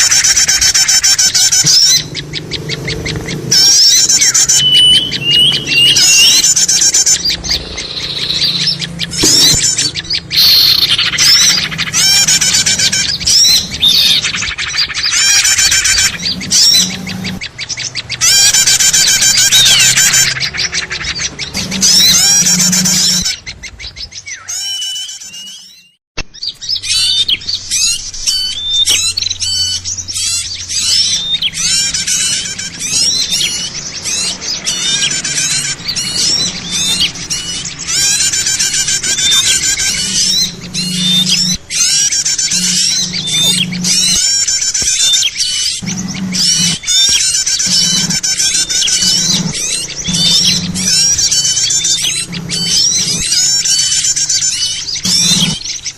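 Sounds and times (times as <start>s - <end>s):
small birds chirping and twittering: 0.0s - 55.9s.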